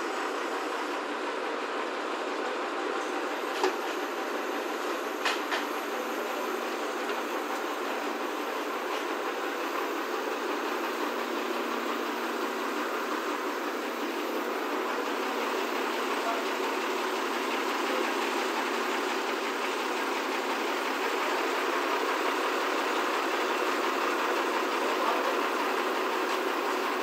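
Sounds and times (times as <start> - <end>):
hydraulic crane running: 0.0 - 27.0.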